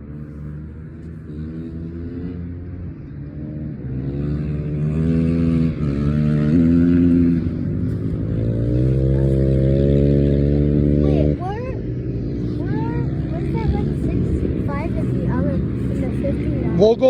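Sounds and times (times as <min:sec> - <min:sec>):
engine accelerating: 0:00.0 - 0:17.0.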